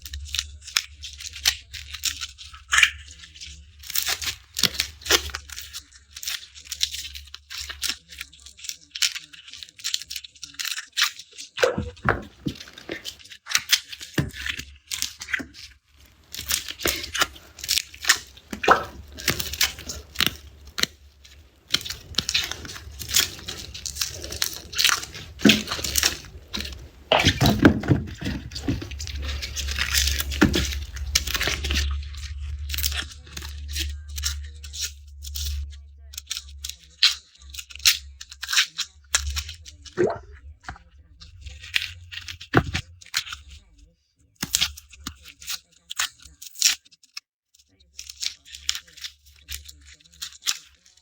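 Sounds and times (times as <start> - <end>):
garlic skins crackling: 0.0 - 43.8.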